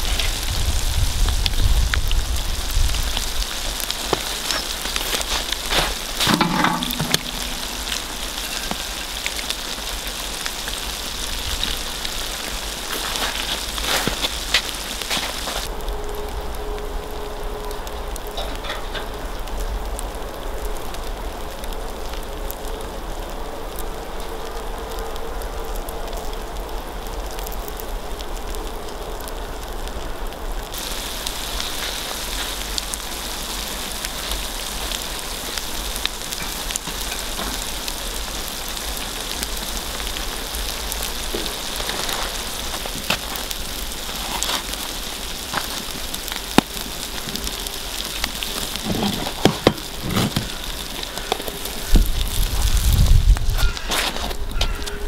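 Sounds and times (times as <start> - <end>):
paella sizzling and bubbling in pan: 0.0 - 55.0
wood fire crackling: 0.0 - 55.0.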